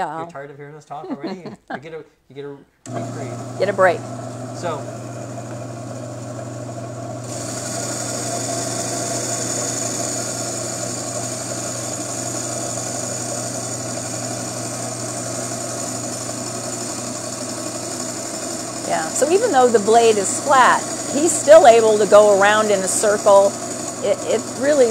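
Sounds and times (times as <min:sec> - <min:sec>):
bandsaw motor hum: 0:02.9 - 0:24.9.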